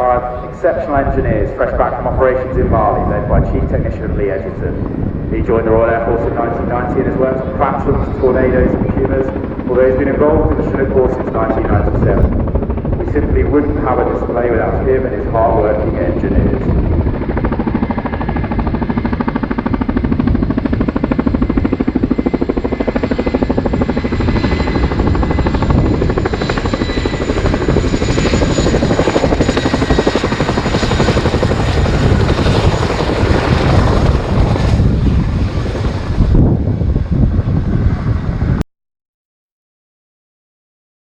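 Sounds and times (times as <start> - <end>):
high turbine whine: 0.0 - 38.6.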